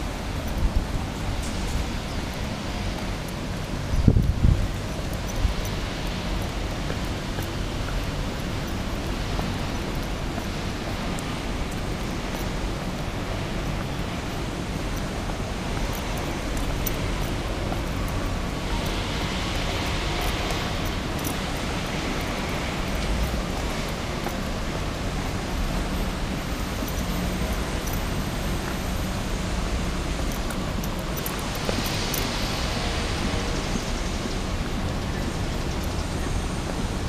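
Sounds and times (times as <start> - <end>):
wind rumbling on microphone: 0.0 - 37.0.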